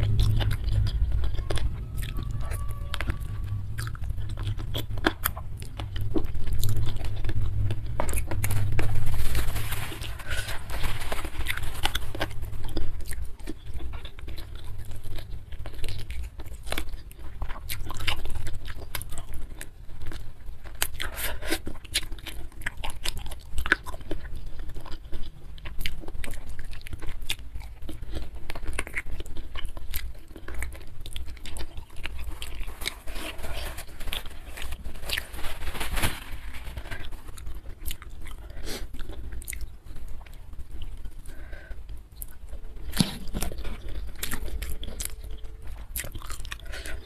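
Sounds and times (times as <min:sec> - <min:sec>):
person chewing: 0:00.0 - 0:47.0
sharp clicks and crunches: 0:00.0 - 0:47.0.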